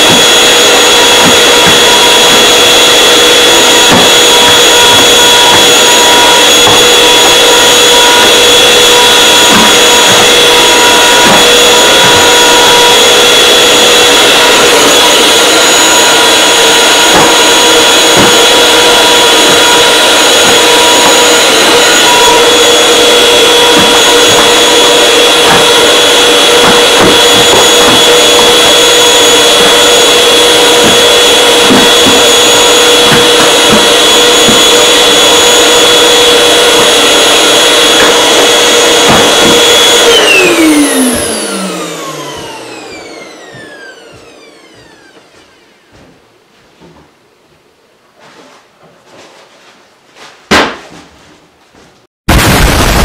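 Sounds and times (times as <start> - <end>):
vacuum cleaner running: 0.0 - 46.3.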